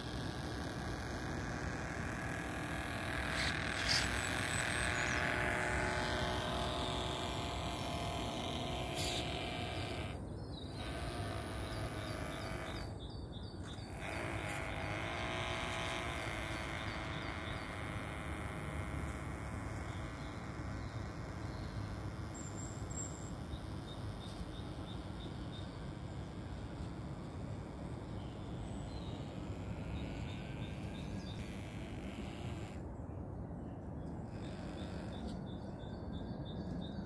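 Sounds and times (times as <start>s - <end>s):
electric motor and propeller whining: 0.0s - 33.0s, 34.0s - 35.8s
outdoor background hiss: 0.0s - 37.0s.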